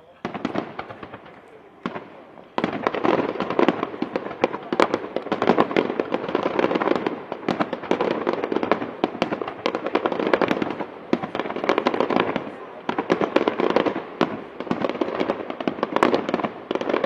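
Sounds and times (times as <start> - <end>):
firework bangs: 0.0 - 17.0
rapid crackling firework pops: 0.0 - 17.0.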